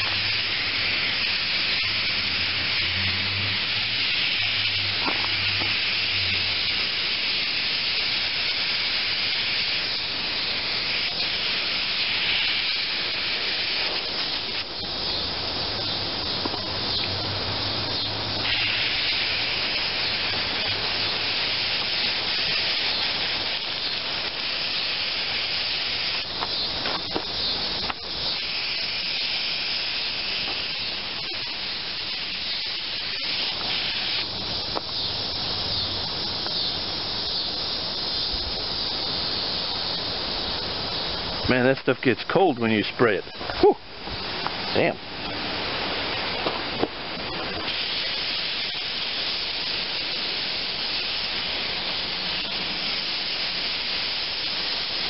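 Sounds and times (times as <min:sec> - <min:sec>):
aerosol can hissing: 0:00.0 - 0:41.9, 0:42.6 - 0:55.0.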